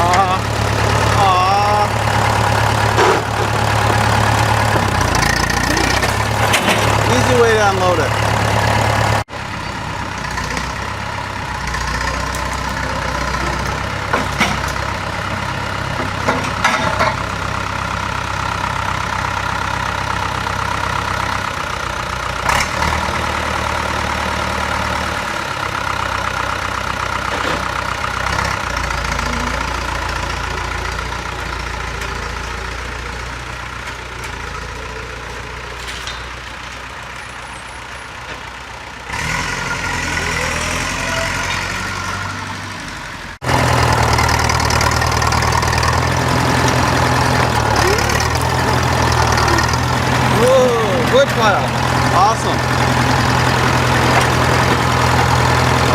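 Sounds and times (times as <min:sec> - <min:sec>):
heavy engine idling: 0:00.0 - 0:55.9.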